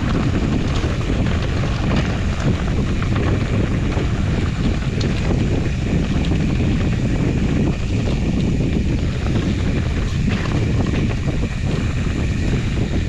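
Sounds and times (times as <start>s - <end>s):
bike rattles and clicks: 0.0s - 13.0s
wind rumble on microphone: 0.0s - 13.0s.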